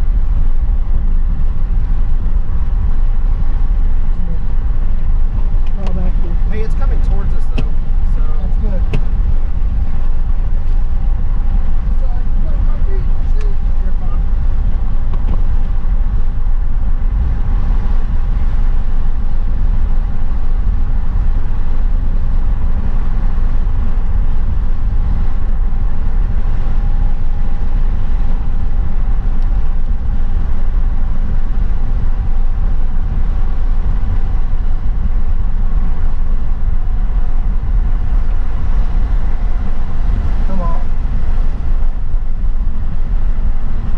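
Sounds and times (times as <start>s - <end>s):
vehicle rumble on unpaved road: 0.0s - 43.9s.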